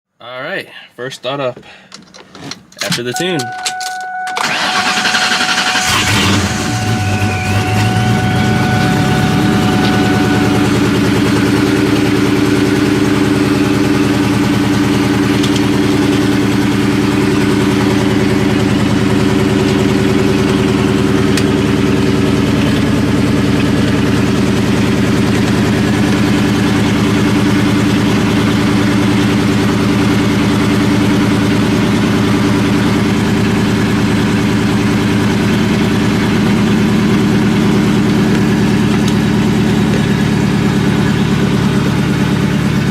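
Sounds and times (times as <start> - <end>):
car engine idling: 3.1 - 42.9.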